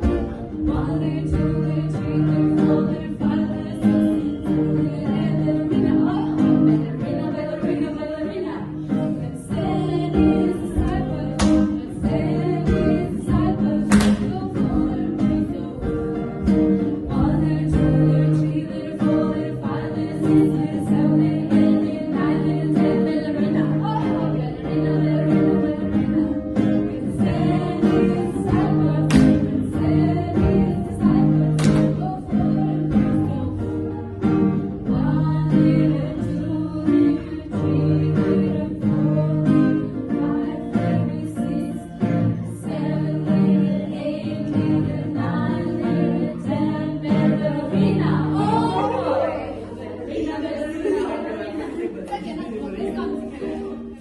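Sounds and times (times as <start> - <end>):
guitar: 0.0 - 54.0
voices singing together: 0.0 - 54.0.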